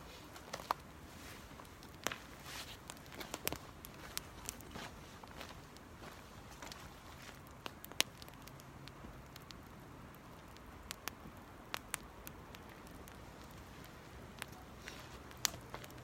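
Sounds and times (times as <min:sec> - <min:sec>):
small campfire crackling: 0:00.0 - 0:16.0.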